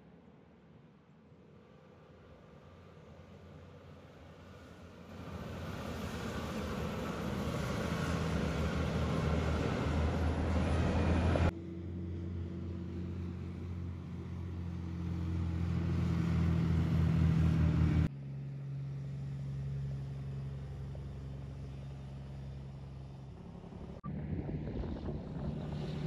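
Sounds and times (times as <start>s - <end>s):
diesel trucks driving past: 1.2s - 26.0s.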